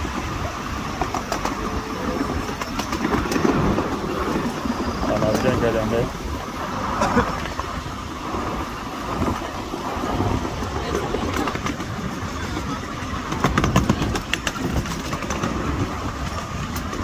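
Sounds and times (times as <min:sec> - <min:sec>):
train wheels running on rails: 0:00.0 - 0:17.0.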